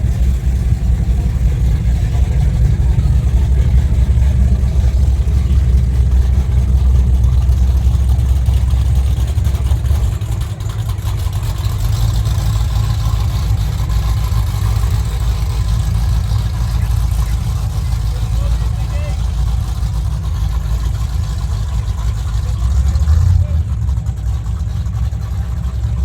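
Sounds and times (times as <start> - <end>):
lighter engine rumble: 0.0 - 26.0
powerboat engines idling: 0.0 - 26.0.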